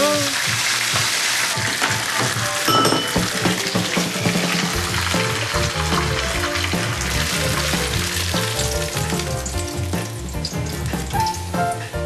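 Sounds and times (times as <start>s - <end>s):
shrimp sizzling in hot oil: 0.0s - 12.0s.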